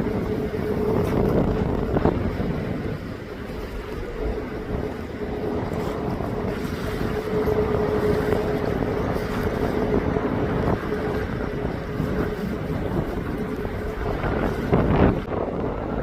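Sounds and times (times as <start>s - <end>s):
airliner engine rumble: 0.0s - 16.0s
wind buffeting microphone: 0.0s - 16.0s.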